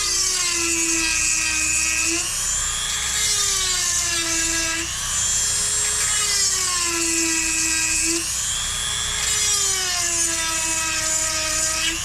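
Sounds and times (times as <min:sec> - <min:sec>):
rotary tool whining: 0:00.0 - 0:12.0.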